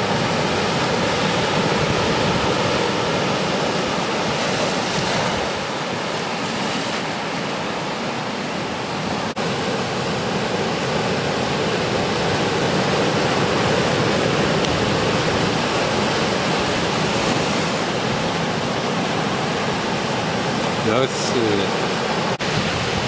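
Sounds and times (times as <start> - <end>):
waves breaking: 0.0 - 23.0.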